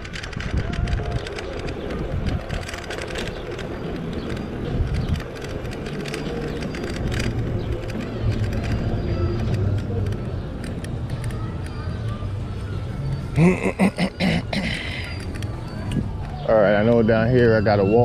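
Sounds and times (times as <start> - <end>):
bike clicks and rattles: 0.0 - 12.2, 13.1 - 16.4
tyres rumbling on pavement: 0.0 - 17.8.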